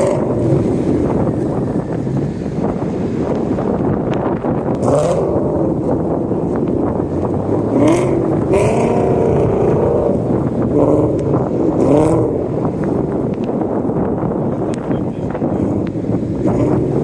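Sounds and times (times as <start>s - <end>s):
car engine revving: 0.0s - 17.0s
road and wind noise: 0.0s - 17.0s.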